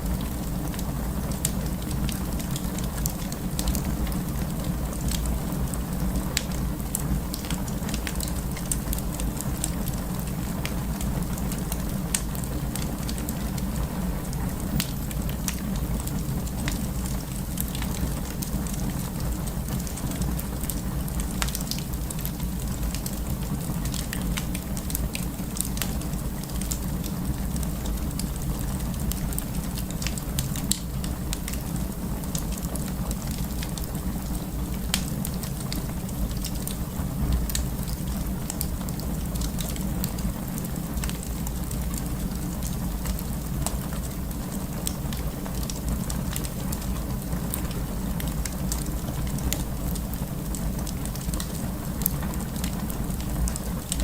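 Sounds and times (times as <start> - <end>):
fire crackles and pops: 0.0 - 54.0
wood fire burning: 0.0 - 54.0.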